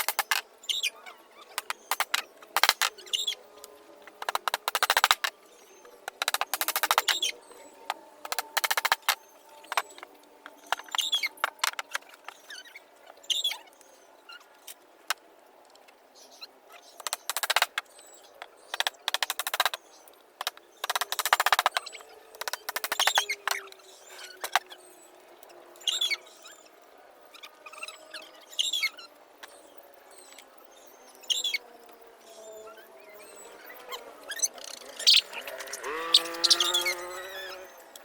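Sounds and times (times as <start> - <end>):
birds chirping: 0.0 - 15.1, 15.8 - 38.0.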